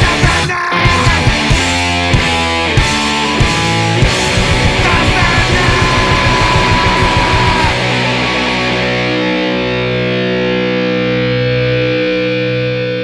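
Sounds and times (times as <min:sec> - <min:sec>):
punk rock band playing: 0:00.0 - 0:13.0
distorted guitar chord ringing: 0:00.8 - 0:13.0.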